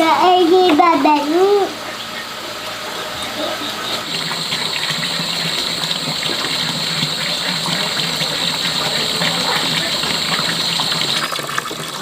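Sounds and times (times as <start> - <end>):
running water rushing: 0.9 - 12.0.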